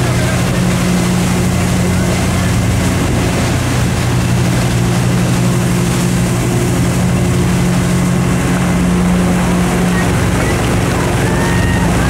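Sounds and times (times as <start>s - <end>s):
churning wake water: 0.0s - 12.0s
motorboat engine drone: 0.0s - 12.0s.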